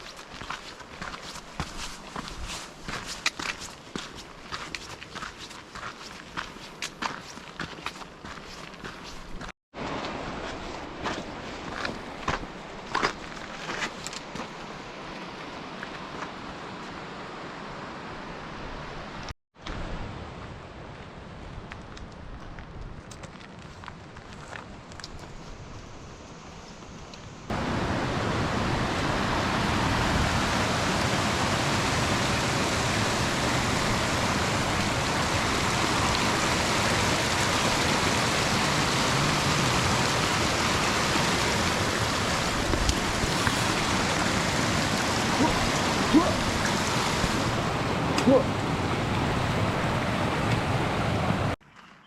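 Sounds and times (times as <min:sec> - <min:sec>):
creek water rushing: 0:00.0 - 0:19.3, 0:27.5 - 0:51.6.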